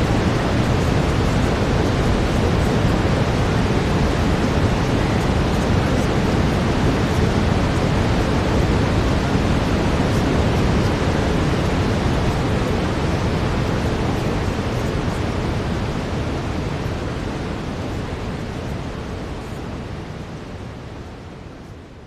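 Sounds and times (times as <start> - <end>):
brown noise hiss: 0.0 - 22.0.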